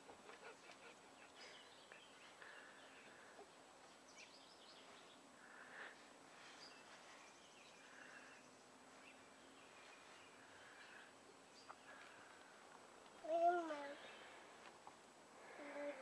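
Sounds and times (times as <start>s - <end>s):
distant birds chirping: 0.0s - 13.2s, 13.8s - 16.0s
faint outdoor hiss: 0.0s - 16.0s.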